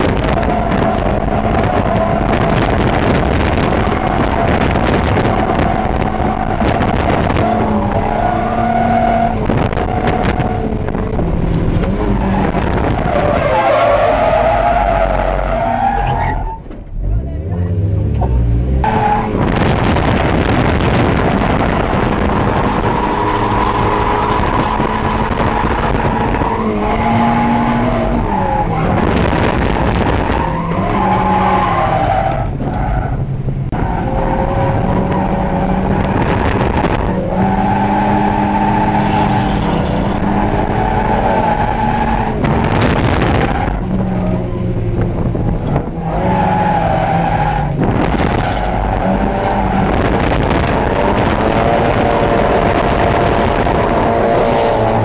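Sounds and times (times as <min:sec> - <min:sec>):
car engine revving hard: 0:00.0 - 0:16.0, 0:17.9 - 0:32.9, 0:33.7 - 0:55.0
tyres skidding: 0:00.0 - 0:55.0.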